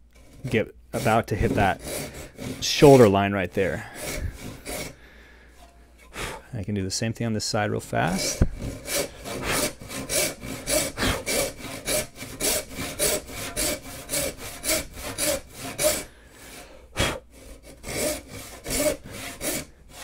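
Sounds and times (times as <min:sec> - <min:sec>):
hand saw cutting wood: 0:00.1 - 0:05.1, 0:08.0 - 0:20.0.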